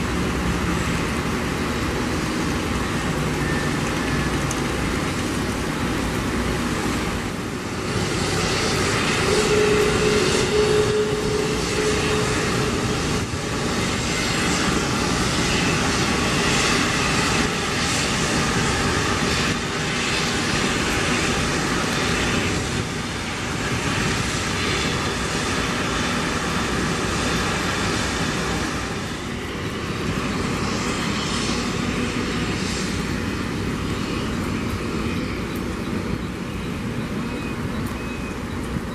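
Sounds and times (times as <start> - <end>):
jet engines at taxi power: 0.0 - 38.9.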